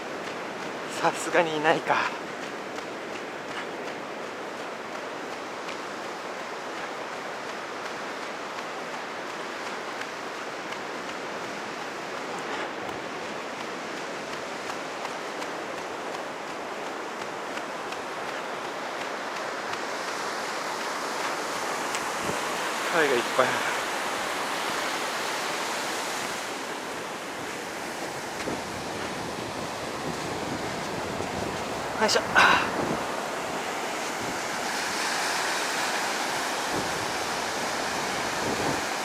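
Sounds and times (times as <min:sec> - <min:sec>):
surf breaking on a beach: 0:00.0 - 0:39.0.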